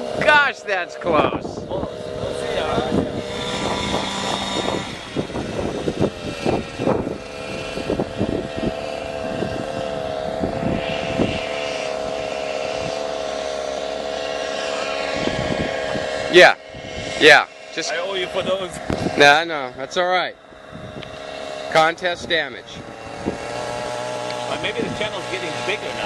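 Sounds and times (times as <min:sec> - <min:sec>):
model helicopter whine: 0:00.0 - 0:26.0.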